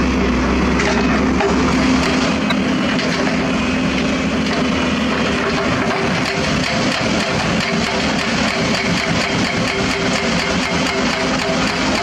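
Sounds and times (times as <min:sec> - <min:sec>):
diesel excavator engine: 0:00.0 - 0:12.0.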